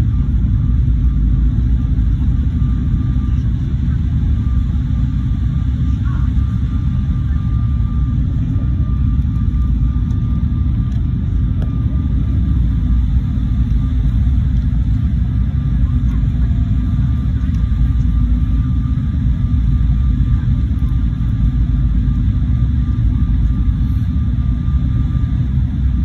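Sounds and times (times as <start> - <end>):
airliner engine rumble: 0.0 - 26.0
faint steady whine: 0.0 - 26.0.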